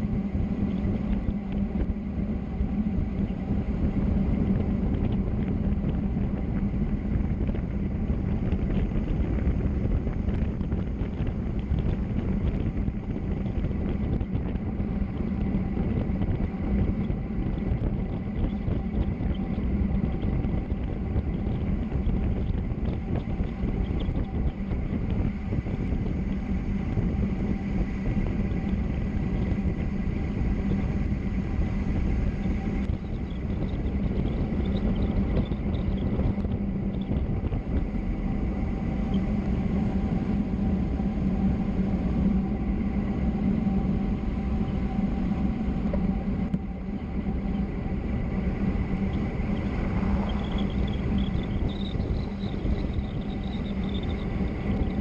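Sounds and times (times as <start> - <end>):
constant low hum: 0.0 - 55.0
road and wind noise: 0.0 - 55.0.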